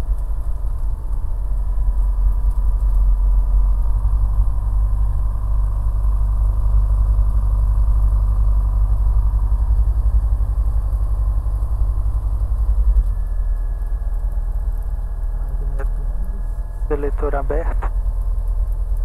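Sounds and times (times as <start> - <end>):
light aircraft engine and propeller: 0.0 - 19.0.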